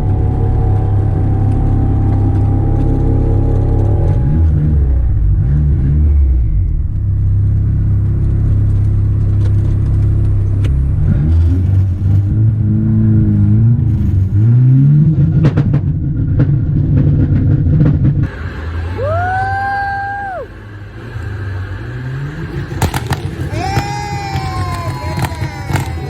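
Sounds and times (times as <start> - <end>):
car engine revving: 0.0 - 26.0
exhaust cracks: 0.0 - 26.0.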